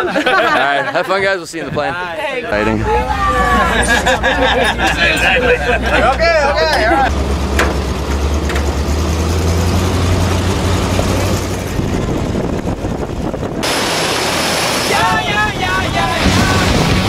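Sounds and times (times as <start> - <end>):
road and wind noise: 0.0 - 17.0
truck engine rumbling: 2.4 - 17.0.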